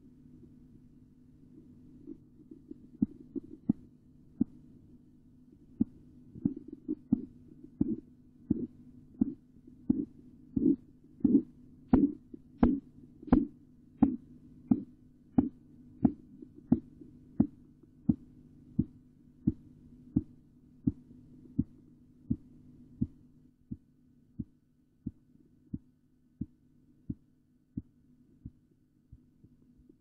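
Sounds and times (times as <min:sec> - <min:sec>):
heartbeat tapping through stethoscope: 0:02.0 - 0:04.6, 0:05.7 - 0:27.2.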